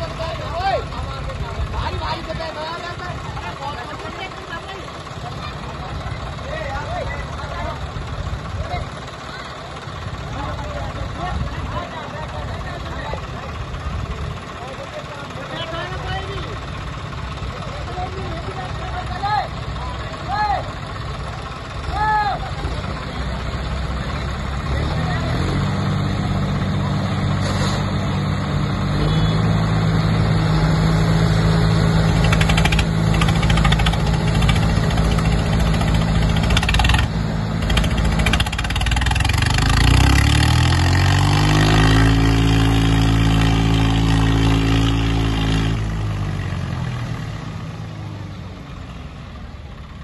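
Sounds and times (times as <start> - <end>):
tractor diesel engine revving: 0.0 - 48.6.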